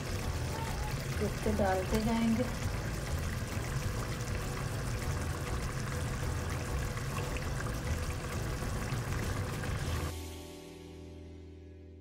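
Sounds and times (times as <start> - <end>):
curry bubbling in a pot: 0.0 - 10.2.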